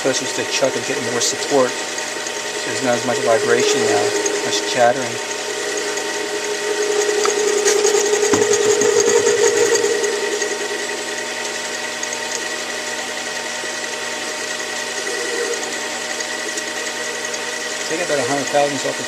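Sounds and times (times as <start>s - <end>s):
lathe cutting metal: 0.0s - 19.0s
lathe motor whine: 0.0s - 19.0s.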